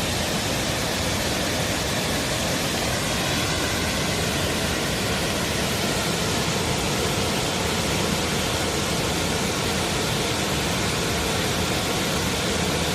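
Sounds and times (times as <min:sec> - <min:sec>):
waterfall pouring into pool: 0:00.0 - 0:12.9.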